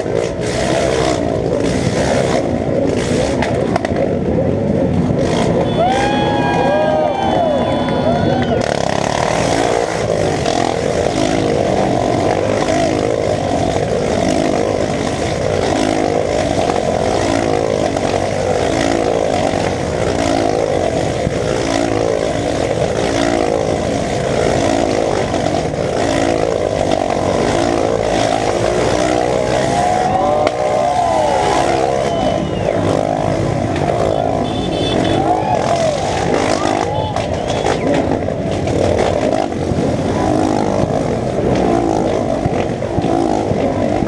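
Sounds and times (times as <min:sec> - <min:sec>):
motorcycle engine running: 0:00.0 - 0:44.0
road noise: 0:00.0 - 0:44.0
wind: 0:00.0 - 0:44.0.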